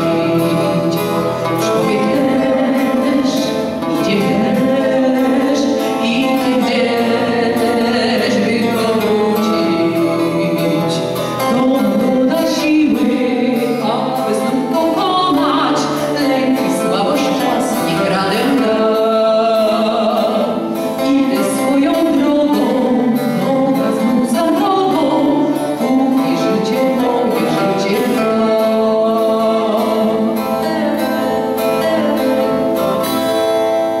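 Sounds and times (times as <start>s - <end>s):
woman singing into microphone: 0.0s - 33.6s
instrumental accompaniment: 0.0s - 34.0s.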